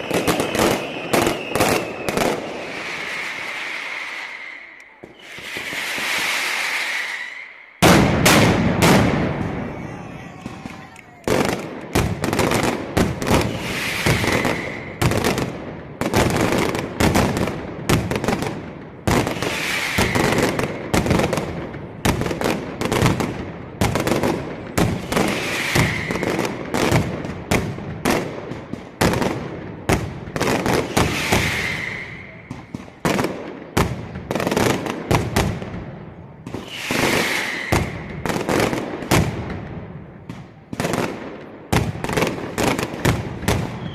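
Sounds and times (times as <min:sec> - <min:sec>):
firecrackers banging: 0:00.0 - 0:35.8, 0:36.4 - 0:43.9.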